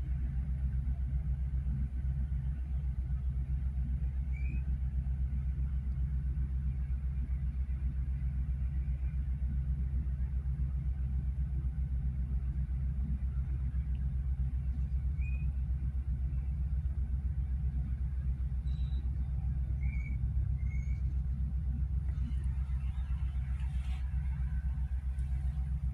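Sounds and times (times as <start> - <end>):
fluttering low rumble: 0.0 - 25.9.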